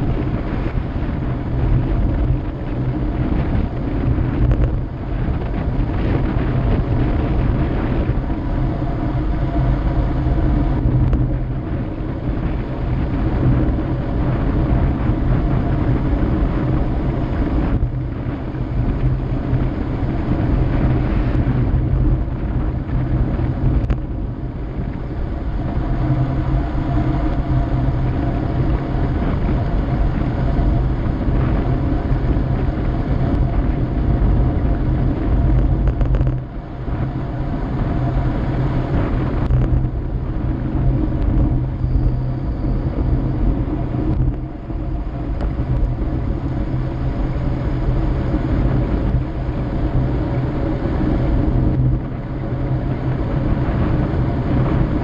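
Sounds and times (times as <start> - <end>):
vehicle road noise on asphalt: 0.0 - 55.0
wind rushing over microphone: 0.0 - 55.0.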